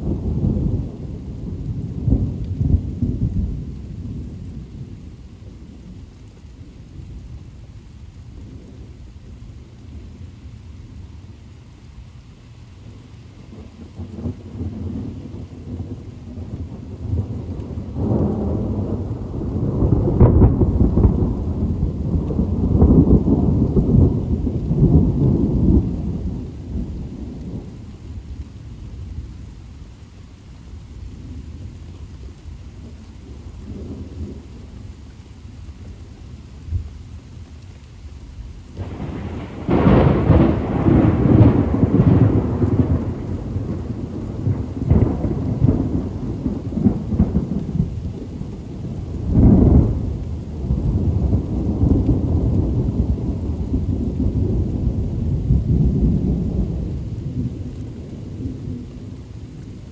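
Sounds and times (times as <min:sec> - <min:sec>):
thunder rumbling: 0:00.0 - 0:11.9, 0:12.7 - 0:59.9
steady rain: 0:00.0 - 0:59.9.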